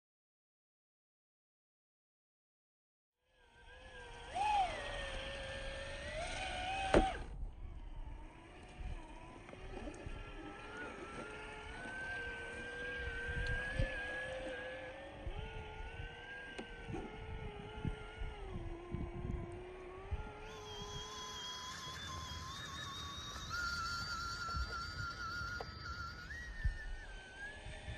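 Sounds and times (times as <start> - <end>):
small electric motor whining: 3.3 - 27.9.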